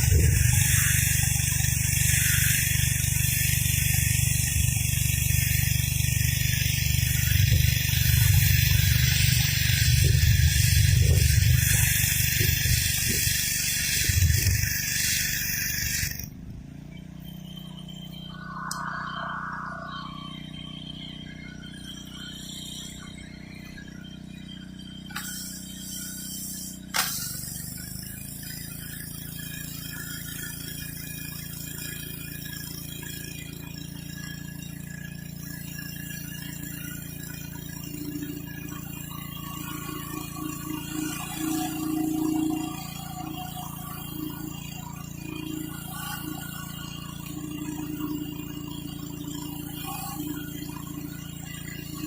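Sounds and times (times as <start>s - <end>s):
water jet hissing on concrete: 0.0s - 16.3s, 21.4s - 52.0s
pressure washer engine running: 0.0s - 52.0s.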